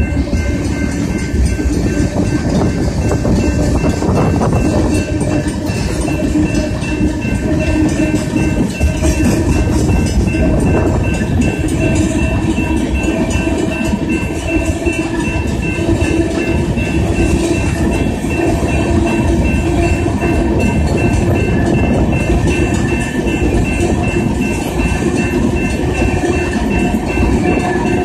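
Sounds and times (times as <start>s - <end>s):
crossing warning bell ringing: 0.0s - 28.0s
train wheels clattering on rails: 0.0s - 28.0s.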